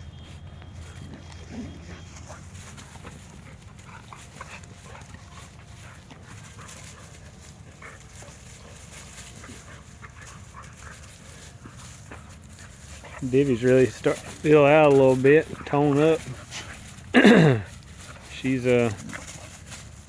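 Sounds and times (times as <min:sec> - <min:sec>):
dogs playing: 0:00.0 - 0:20.0.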